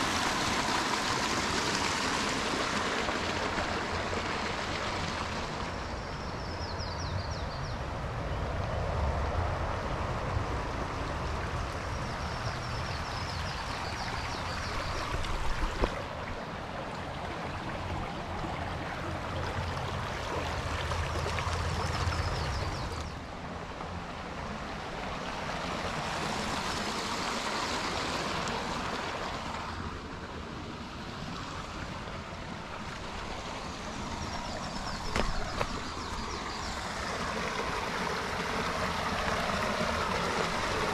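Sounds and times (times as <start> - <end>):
creek water running over rocks: 0.0 - 7.0, 8.6 - 40.9.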